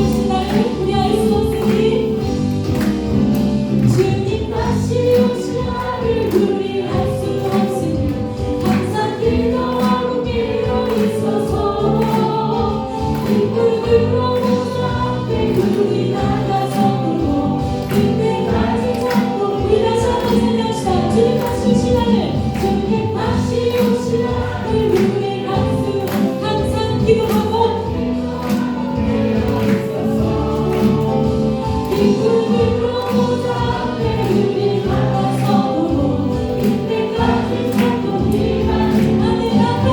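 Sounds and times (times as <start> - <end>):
drums beat: 0.0 - 39.9
group singing with band: 0.0 - 39.9.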